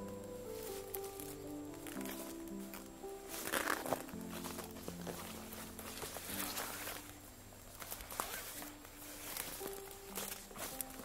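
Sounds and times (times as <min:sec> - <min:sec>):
dry stems rustling and crackling: 0:00.0 - 0:11.0
piano music: 0:00.0 - 0:11.0.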